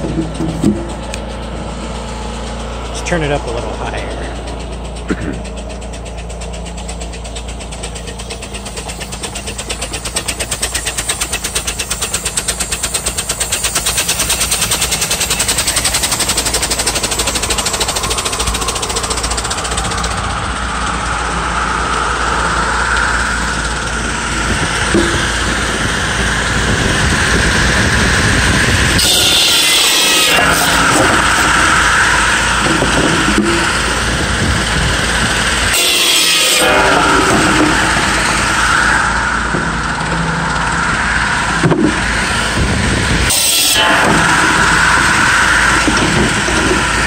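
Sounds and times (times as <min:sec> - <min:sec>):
steam engine chuffing: 0:00.0 - 0:47.0
saw blade spinning: 0:03.1 - 0:47.0
steam hissing: 0:06.8 - 0:47.0.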